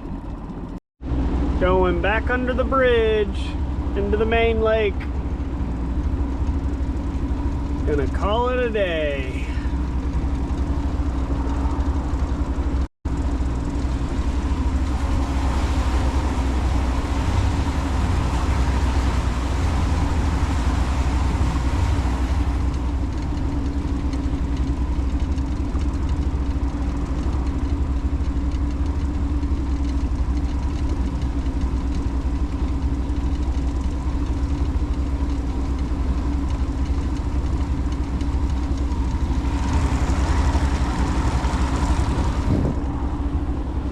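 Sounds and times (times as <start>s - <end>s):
motorboat engine drone: 0.0s - 43.9s
water and wind rushing: 0.0s - 43.9s.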